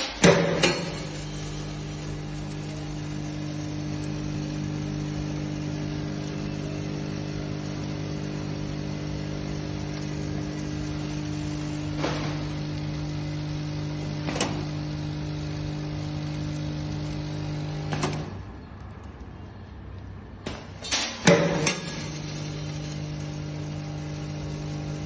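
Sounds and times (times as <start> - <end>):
filling machine humming: 0.0 - 18.5, 20.9 - 25.0.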